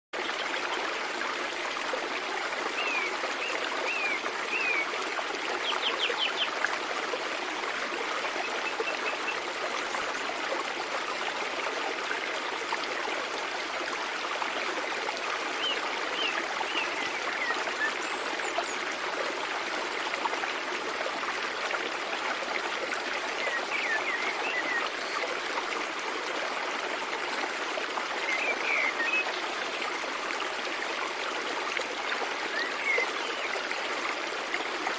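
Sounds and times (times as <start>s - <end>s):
stream flowing over rocks: 0.2s - 34.9s.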